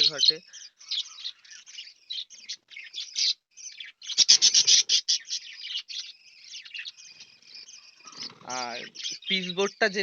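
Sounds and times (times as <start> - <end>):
budgerigars chattering: 0.0 - 10.0.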